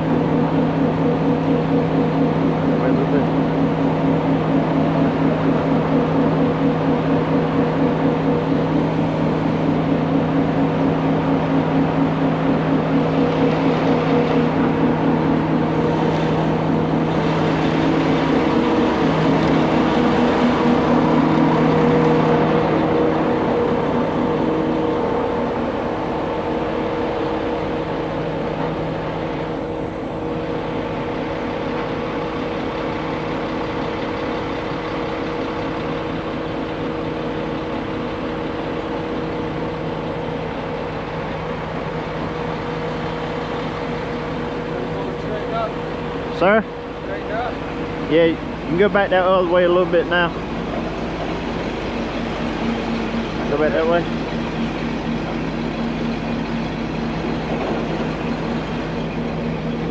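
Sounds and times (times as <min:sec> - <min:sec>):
heavy truck engine running: 0:00.0 - 0:59.9.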